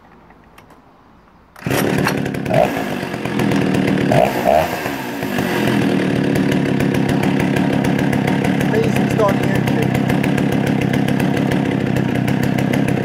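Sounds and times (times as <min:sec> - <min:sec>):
chainsaw engine running: 0:01.6 - 0:13.0.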